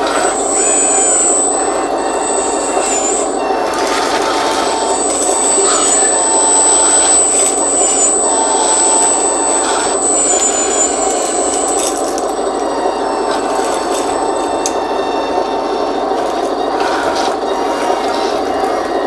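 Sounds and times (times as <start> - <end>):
electric pump whirring hum: 0.0 - 19.0
high electric whine: 0.0 - 19.0.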